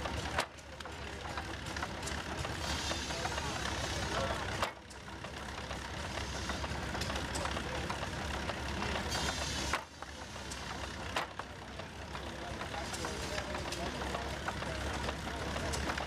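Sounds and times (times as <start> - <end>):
low engine rumble: 0.0 - 16.0
machinery knocks and clicks: 0.0 - 16.0.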